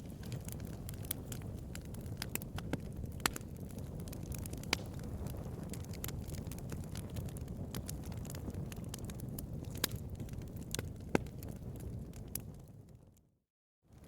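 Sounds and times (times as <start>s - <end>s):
bonfire pops and snaps: 0.0s - 13.1s
low rumble of burning fire: 0.0s - 14.0s.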